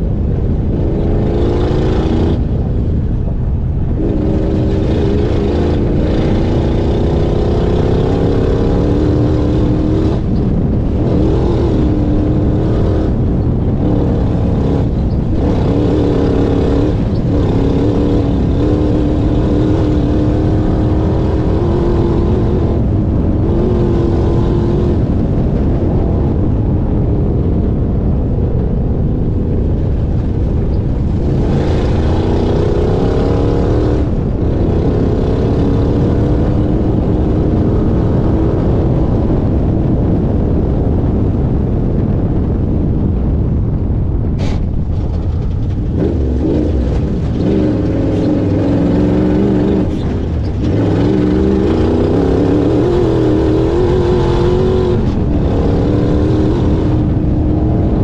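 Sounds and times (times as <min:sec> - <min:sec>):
race car engine revving: 0:00.0 - 0:26.7, 0:29.7 - 0:40.1, 0:44.4 - 0:58.0
low rumble of wind and ground: 0:00.0 - 0:58.0.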